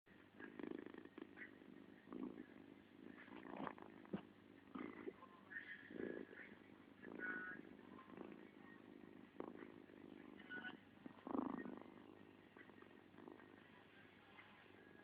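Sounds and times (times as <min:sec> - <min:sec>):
cat snoring faintly: 0:00.2 - 0:15.0.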